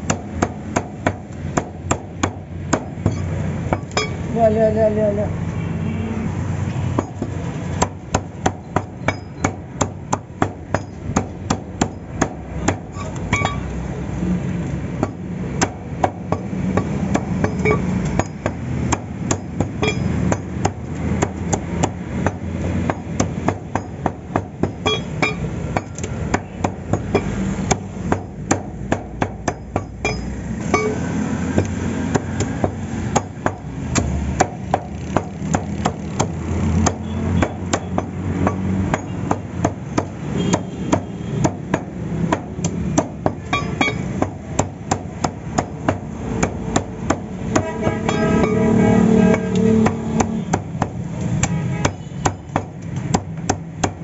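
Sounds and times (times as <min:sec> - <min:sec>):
cleaver chopping on wooden block: 0:07.0 - 0:13.6, 0:15.0 - 0:48.2, 0:49.8 - 0:54.0.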